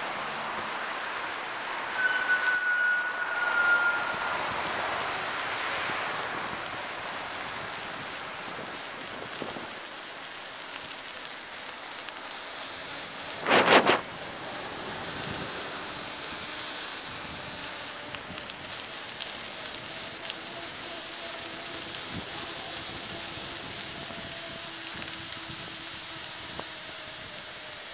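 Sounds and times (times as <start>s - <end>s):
rushing wind: 0.0s - 10.0s, 13.1s - 20.8s, 21.4s - 27.9s
bicycle tyre noise: 0.0s - 27.9s
city traffic: 0.0s - 27.9s
tyres crackling on icy grit: 0.0s - 27.9s.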